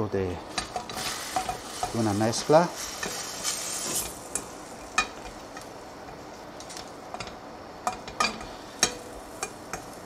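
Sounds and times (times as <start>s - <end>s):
faint sizzle in pan: 0.0s - 10.0s.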